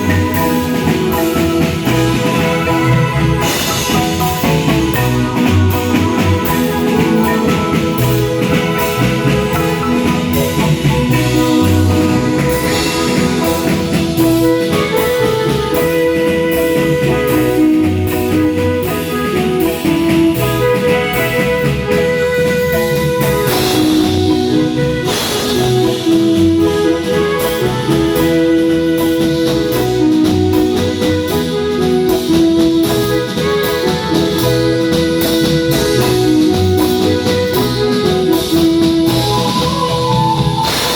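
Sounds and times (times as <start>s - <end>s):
drums keeping a steady beat: 0.0s - 40.9s
marimba band playing: 0.0s - 40.9s.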